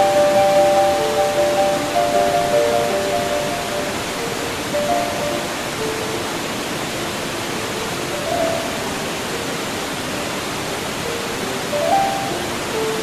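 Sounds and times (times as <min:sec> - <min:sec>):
soft slow music: 0:00.0 - 0:13.0
waterfall rushing: 0:00.0 - 0:13.0.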